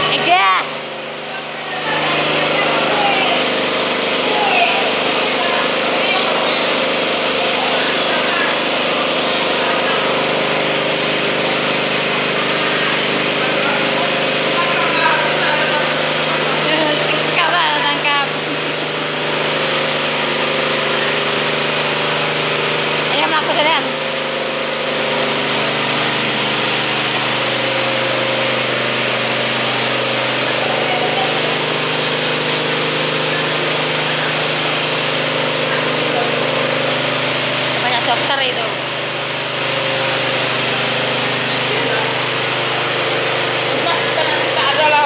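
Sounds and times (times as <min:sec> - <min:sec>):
machine droning: 0:00.0 - 0:45.0.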